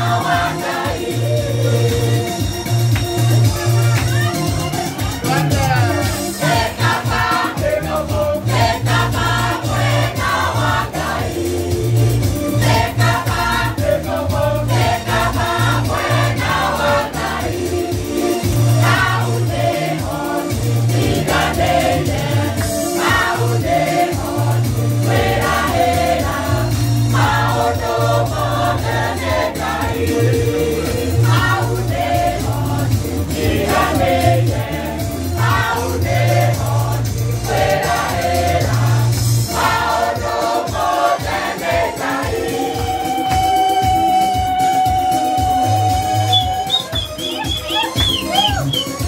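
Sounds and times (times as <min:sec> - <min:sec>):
bass and beat backing: 0:00.0 - 0:49.0
choir singing gospel: 0:00.0 - 0:49.0.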